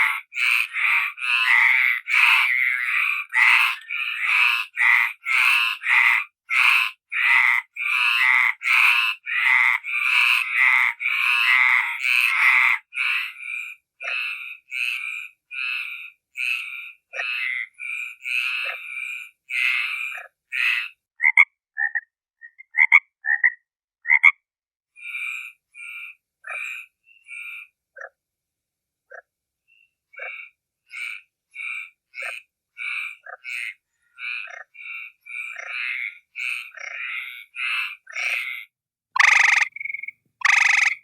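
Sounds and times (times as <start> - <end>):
frog croaking: 0.0 - 24.4, 25.0 - 28.2, 30.1 - 41.0.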